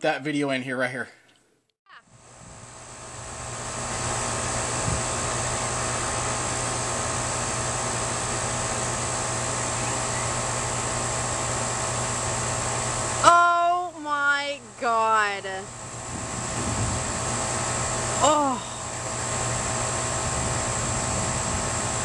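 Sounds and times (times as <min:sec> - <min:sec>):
air conditioner humming: 0:02.1 - 0:22.0.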